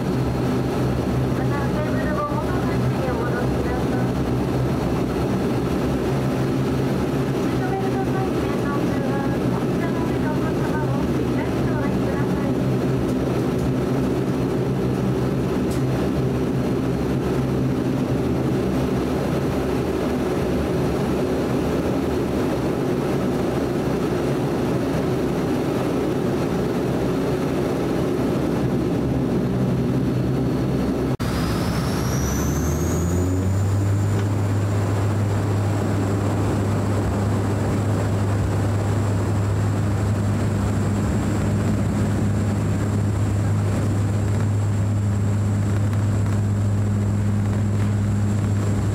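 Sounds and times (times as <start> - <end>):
high engine whine: 0.0 - 48.9
turboprop engines in cabin: 0.0 - 48.9.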